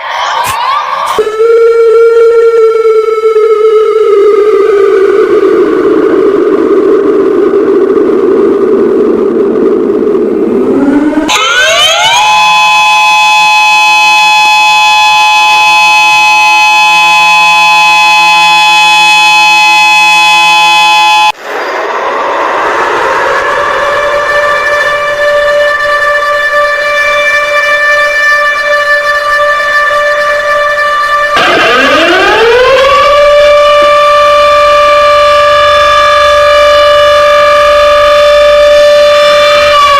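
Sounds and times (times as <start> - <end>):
emergency siren chord: 1.1 - 39.9.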